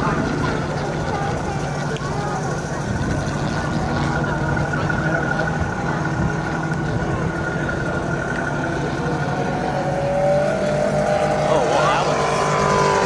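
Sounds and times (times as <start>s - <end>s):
propeller plane flying overhead: 0.0s - 13.0s.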